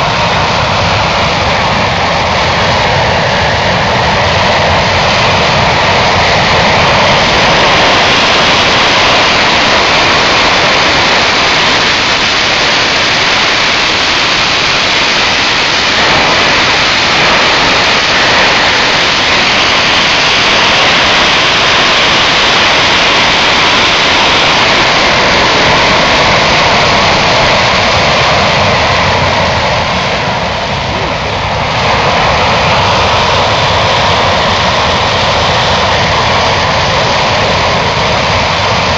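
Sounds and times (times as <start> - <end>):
aircraft engine roaring: 0.0 - 38.9.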